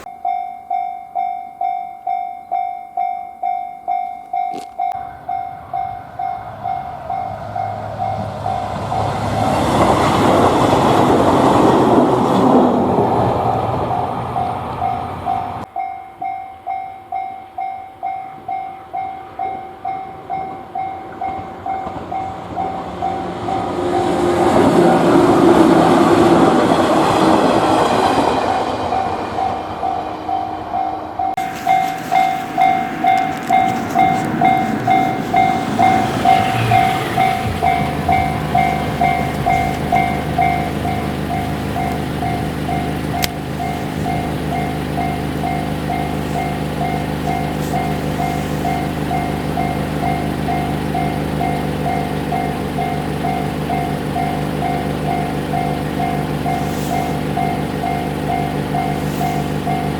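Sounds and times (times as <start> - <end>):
passing train rumble: 0.0 - 0.4, 2.1 - 15.9, 16.6 - 59.9
level crossing warning bell: 0.0 - 59.9.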